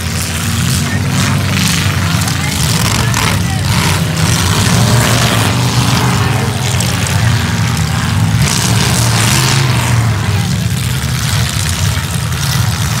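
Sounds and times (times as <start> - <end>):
unmuffled car engines droning: 0.0 - 13.0.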